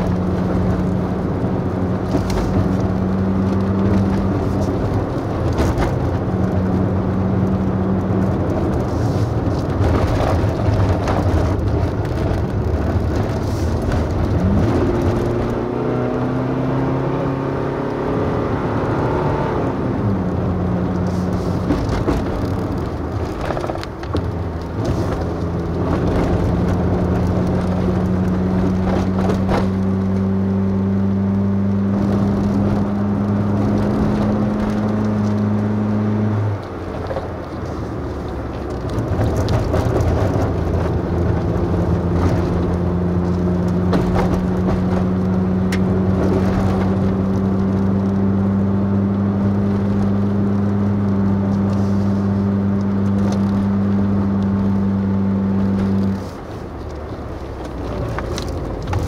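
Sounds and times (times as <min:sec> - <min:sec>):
road noise: 0:00.0 - 0:59.0
vehicle engine hum: 0:00.0 - 0:59.0.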